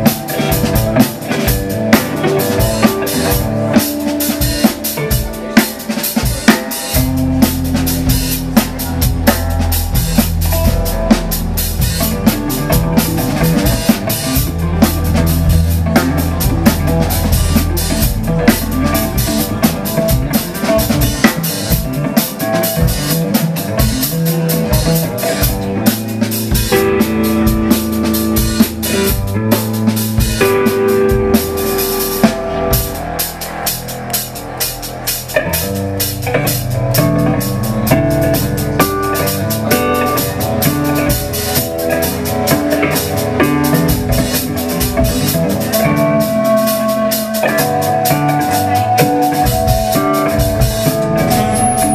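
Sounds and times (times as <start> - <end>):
drum kit with snare rimshots: 0.0 - 51.9
jazz-funk band playing: 0.0 - 51.9
held low bass notes: 7.0 - 22.1, 24.8 - 51.9.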